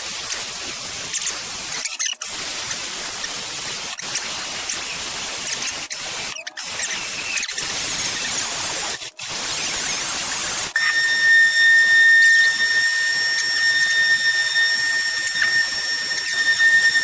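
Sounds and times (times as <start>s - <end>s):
steady hiss-like workshop noise: 0.0s - 17.0s.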